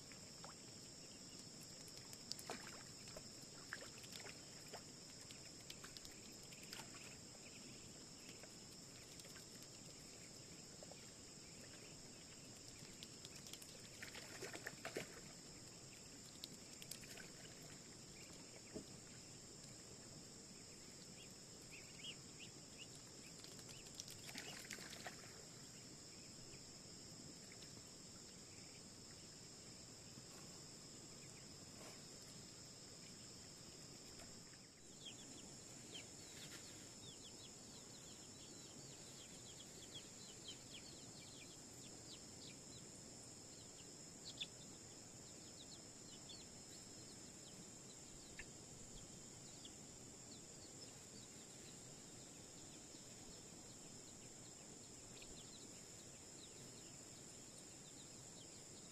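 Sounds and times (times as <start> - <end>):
faint high-pitched hiss: 0.0 - 58.9.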